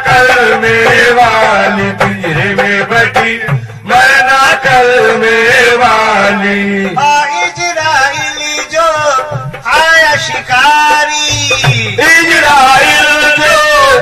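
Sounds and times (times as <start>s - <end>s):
percussive beats: 0.0s - 14.0s
person singing long ornamented notes: 0.0s - 14.0s.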